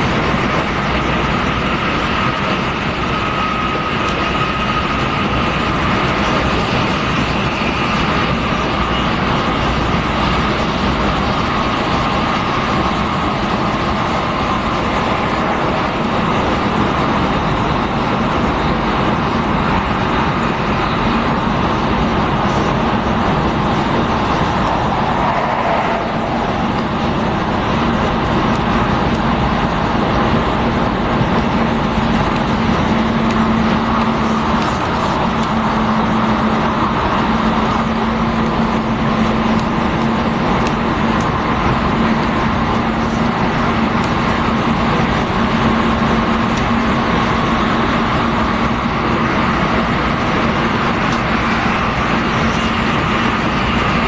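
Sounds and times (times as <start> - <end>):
train wheel and rail noise: 0.0 - 54.0.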